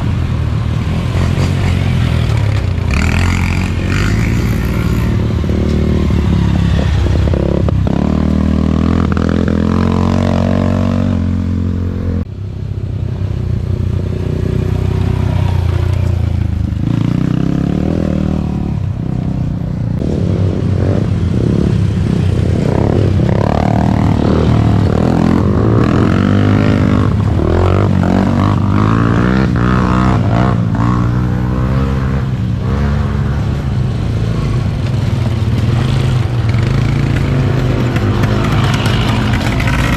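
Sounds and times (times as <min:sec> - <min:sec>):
atv engines revving: 0:00.0 - 0:39.9.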